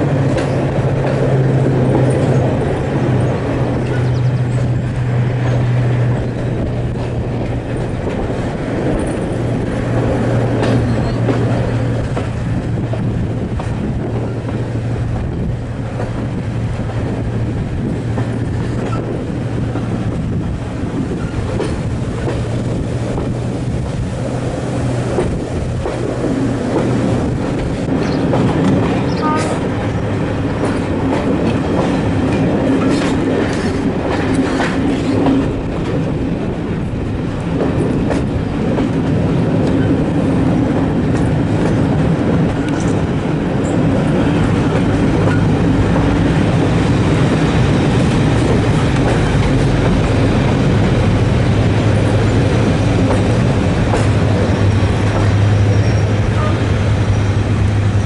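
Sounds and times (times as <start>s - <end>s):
train wheels clicking over rail joints: 0.0s - 58.0s.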